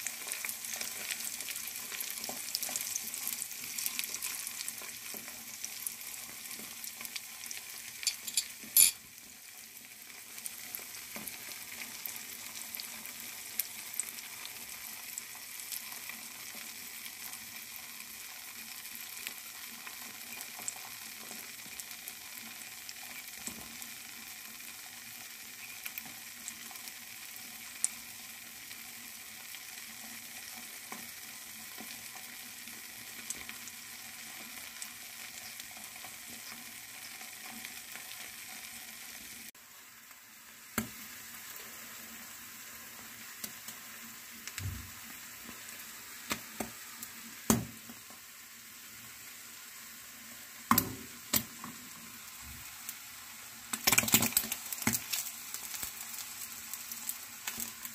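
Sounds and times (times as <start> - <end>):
food sizzling in frying pan: 0.0 - 57.9.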